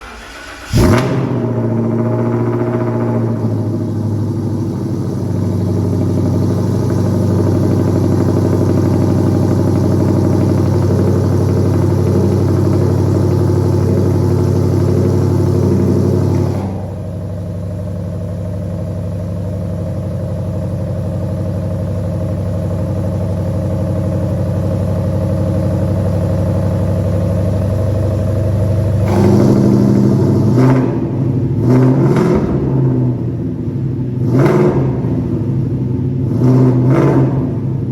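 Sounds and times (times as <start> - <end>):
car engine revving: 0.0 - 18.6, 22.9 - 37.9
car engine idling: 0.0 - 37.9.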